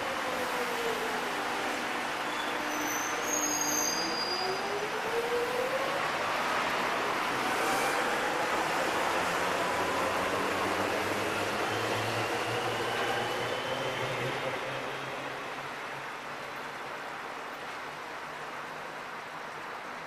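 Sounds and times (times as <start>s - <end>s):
train running noise: 0.0s - 18.0s.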